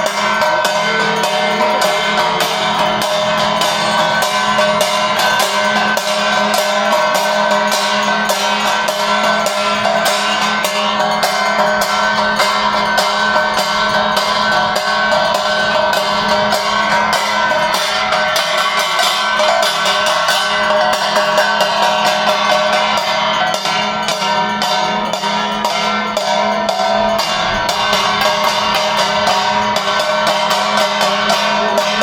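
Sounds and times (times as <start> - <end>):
fast drum strikes: 0.0 - 32.0
ringing bells and cymbals: 0.0 - 32.0.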